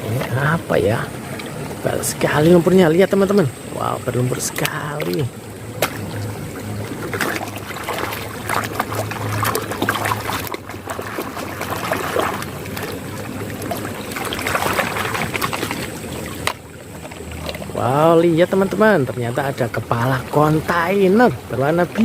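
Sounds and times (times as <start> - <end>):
stream water splashing: 0.0 - 22.0.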